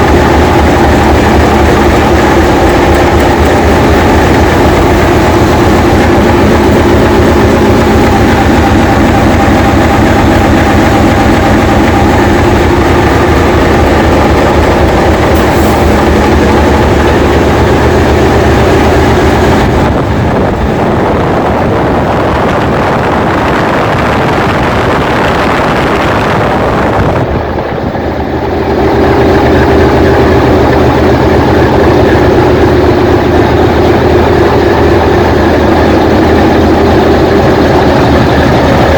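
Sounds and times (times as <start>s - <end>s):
locomotive diesel engine running: 0.0s - 38.9s.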